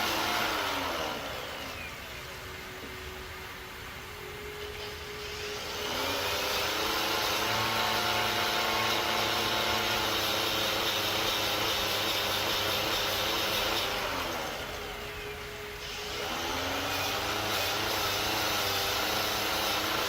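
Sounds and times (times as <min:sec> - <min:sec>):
electric power tool motor: 0:00.0 - 0:02.0, 0:04.6 - 0:20.0.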